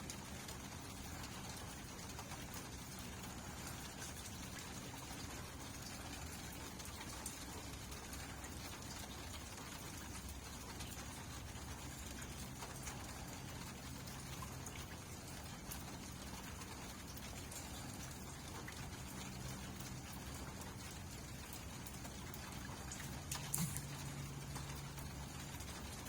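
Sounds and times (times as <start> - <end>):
light rain: 0.0 - 26.0
raindrops ticking on a surface: 0.0 - 26.0.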